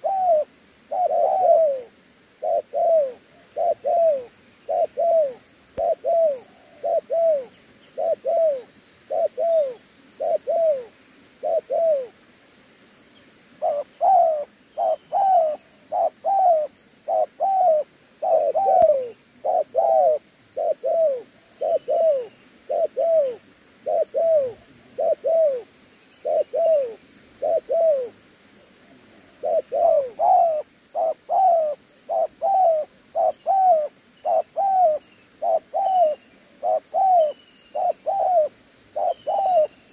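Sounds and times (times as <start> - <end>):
dove cooing: 0.0 - 12.1, 13.6 - 28.2, 29.1 - 39.9.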